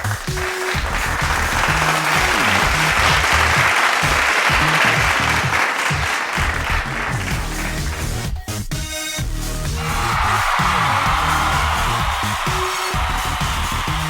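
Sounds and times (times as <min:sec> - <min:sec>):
applause-like noise: 0:00.0 - 0:08.2, 0:09.8 - 0:14.0
background music with low bass: 0:00.0 - 0:14.0.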